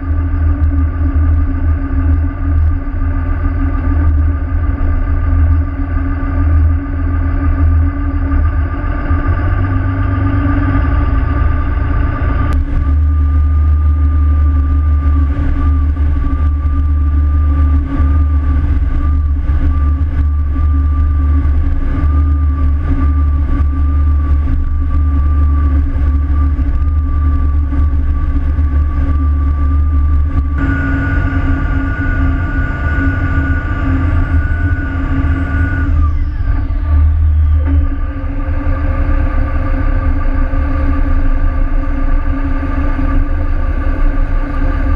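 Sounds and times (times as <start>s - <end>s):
boat engines rumbling: 0.0s - 44.9s
higher whine: 0.0s - 44.9s
thin wavering engine whine: 0.0s - 44.9s.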